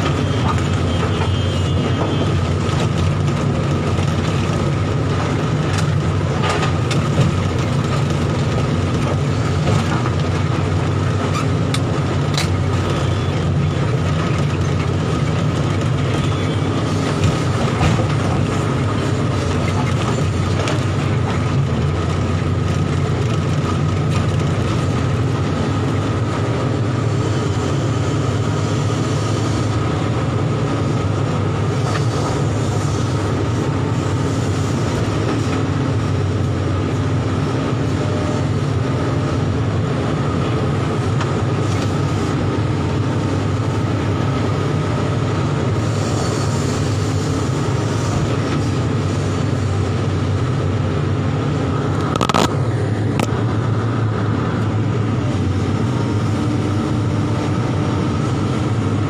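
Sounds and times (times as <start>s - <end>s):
excavator diesel engine droning: 0.0s - 59.0s.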